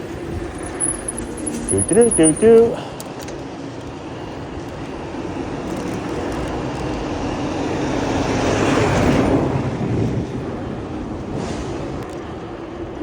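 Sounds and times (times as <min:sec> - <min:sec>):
rushing street traffic noise: 0:00.0 - 0:13.0.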